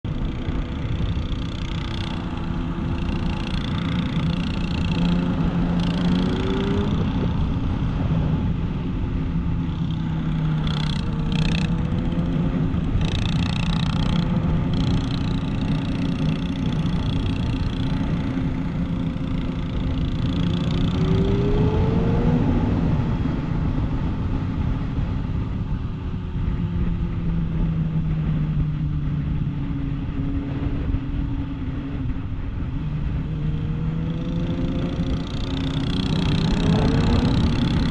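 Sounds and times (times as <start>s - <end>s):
motorcycle engines running: 0.0s - 37.9s
rushing wind noise: 0.0s - 37.9s.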